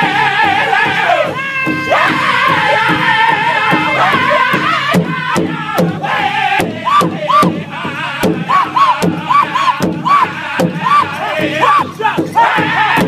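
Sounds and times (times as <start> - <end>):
group singing in high voices: 0.0 - 13.0
large hide drum beating: 0.0 - 13.0
high rising and falling cries: 0.1 - 13.0.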